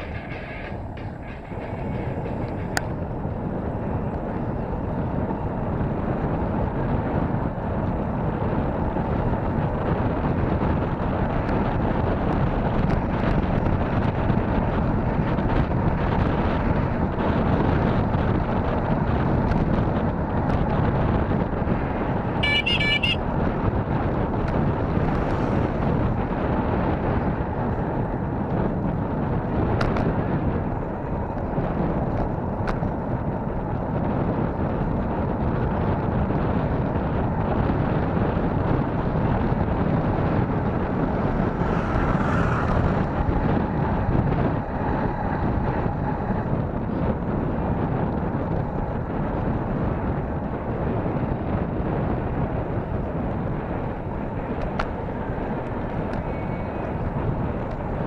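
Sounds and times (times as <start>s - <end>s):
wind on microphone: 0.0s - 58.0s.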